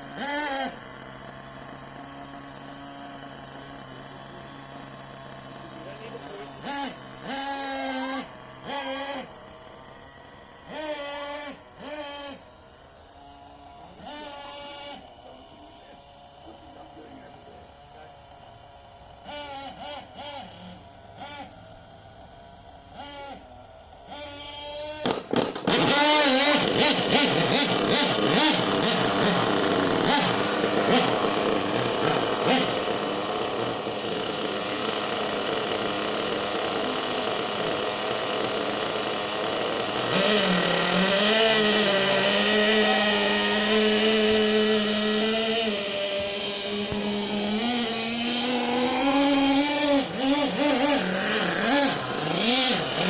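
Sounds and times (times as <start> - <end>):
model engine revving: 0.0 - 53.0.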